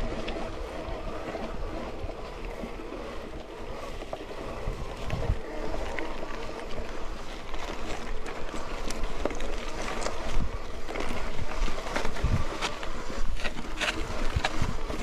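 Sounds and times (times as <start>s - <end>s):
tyre and wind noise: 0.0s - 15.0s.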